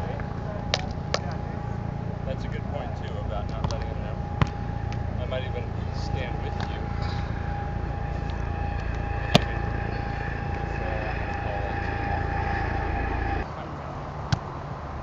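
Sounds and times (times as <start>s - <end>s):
thin steady whine: 0.0s - 13.7s.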